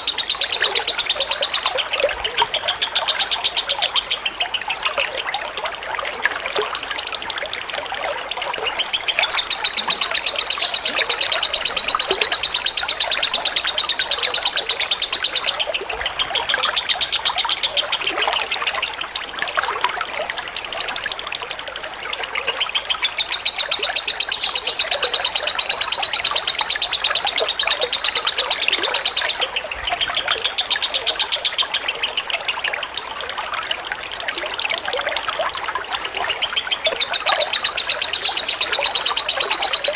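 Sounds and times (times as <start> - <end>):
lovebird chattering trill: 0.0 - 6.0, 6.6 - 19.8, 21.7 - 34.1, 35.3 - 39.9
water trickling: 0.0 - 39.9.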